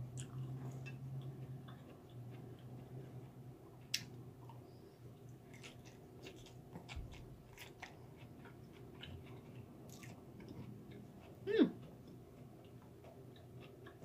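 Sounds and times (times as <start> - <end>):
faint low hum: 0.0 - 14.0
person chewing food: 0.1 - 14.0.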